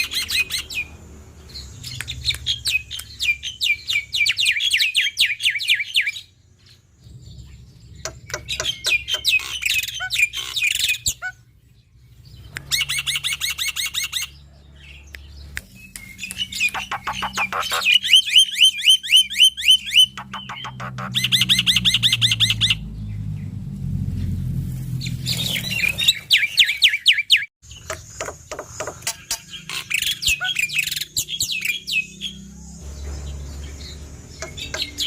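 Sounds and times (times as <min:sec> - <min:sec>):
starling chirping: 0:00.0 - 0:23.6, 0:24.9 - 0:35.0.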